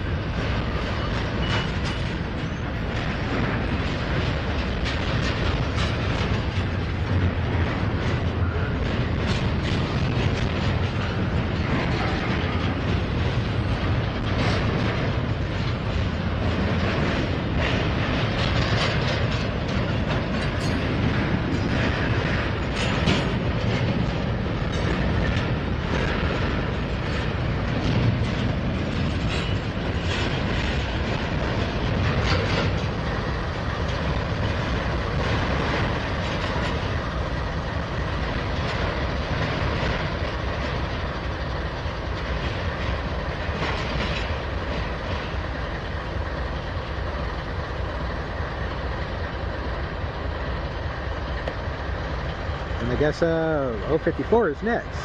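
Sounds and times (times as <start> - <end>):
freight train rolling past: 0.0 - 55.0
wheels clicking over rail joints: 0.0 - 55.0.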